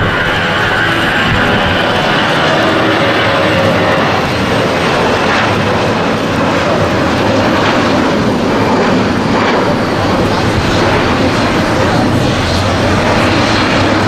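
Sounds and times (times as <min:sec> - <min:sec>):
jet engines at takeoff power: 0:00.0 - 0:14.0.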